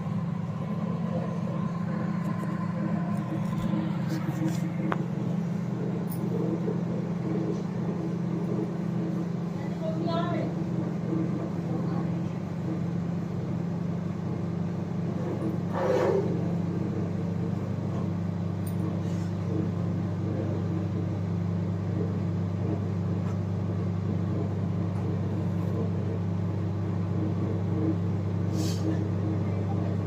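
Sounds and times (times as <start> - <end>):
microwave oven humming: 0.0 - 30.0.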